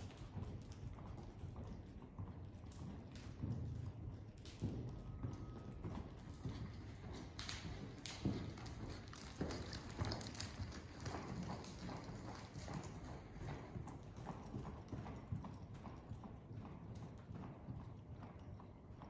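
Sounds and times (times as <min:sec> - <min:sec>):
horse hooves on sand: 0:00.1 - 0:15.5.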